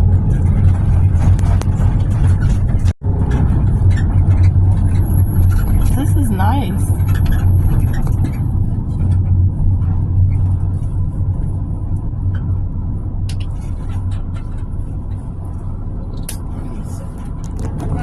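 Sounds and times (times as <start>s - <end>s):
motor vehicle rumbling: 0.0s - 18.0s.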